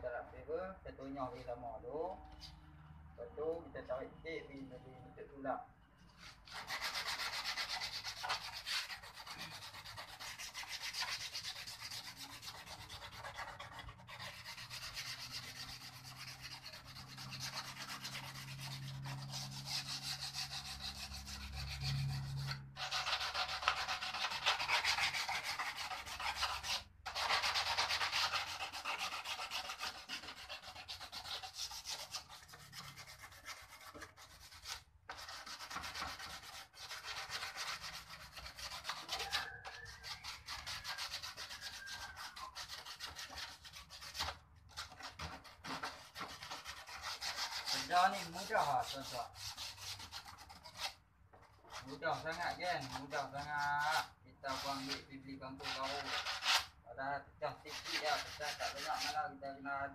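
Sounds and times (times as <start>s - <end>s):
hand sanding plastic: 6.4s - 56.7s, 57.7s - 59.2s.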